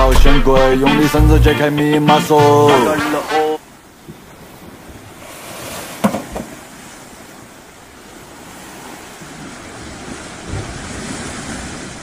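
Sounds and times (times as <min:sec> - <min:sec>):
ocean waves washing over sand: 0:01.0 - 0:12.0.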